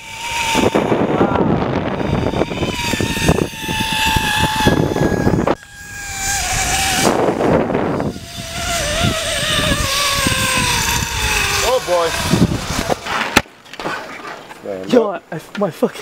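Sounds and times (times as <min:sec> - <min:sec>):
wind buffeting microphone: 0:00.0 - 0:13.4
zip-line pulleys whining: 0:00.0 - 0:13.4.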